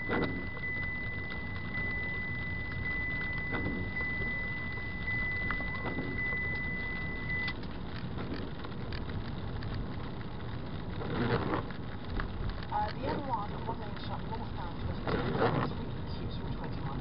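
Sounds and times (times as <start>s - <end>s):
engine and tyres rumbling: 0.0s - 17.0s.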